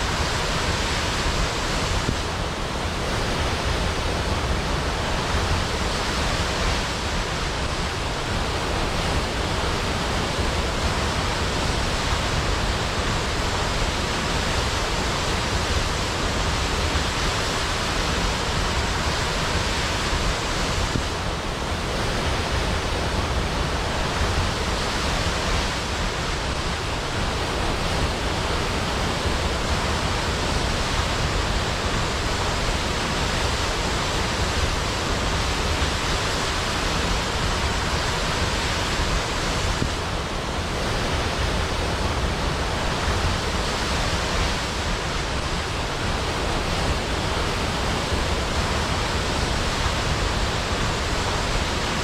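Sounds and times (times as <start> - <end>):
waterfall rushing into a pool: 0.0 - 52.0.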